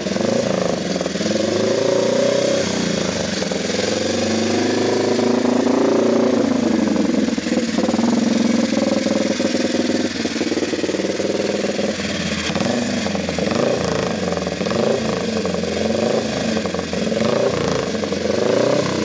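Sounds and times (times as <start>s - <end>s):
racing motorcycle engine revving: 0.0s - 19.0s.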